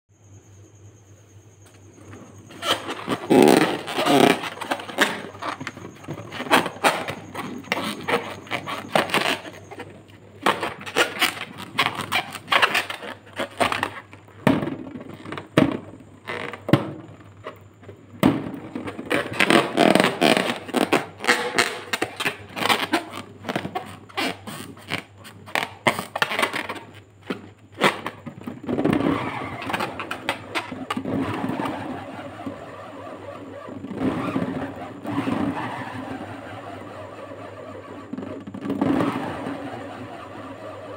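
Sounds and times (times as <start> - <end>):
fingers squeaking on rubber balloon: 2.0 - 14.2, 14.8 - 17.6, 18.4 - 40.9.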